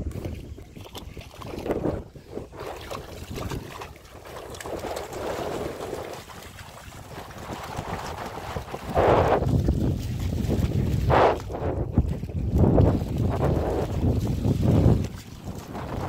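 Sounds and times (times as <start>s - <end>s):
water sloshing and splashing: 0.0s - 16.0s
wind noise on microphone: 0.0s - 16.0s.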